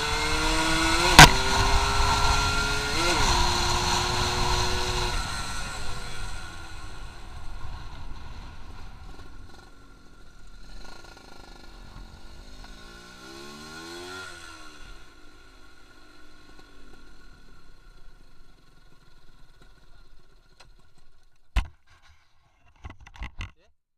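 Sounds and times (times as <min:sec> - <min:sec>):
motorcycle engine accelerating past: 0:00.0 - 0:21.0.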